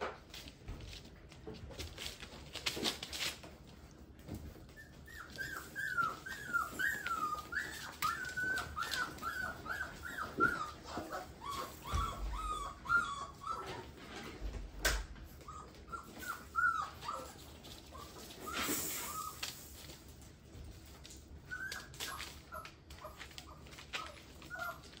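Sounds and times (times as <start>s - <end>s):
puppy whining: 3.9s - 25.0s.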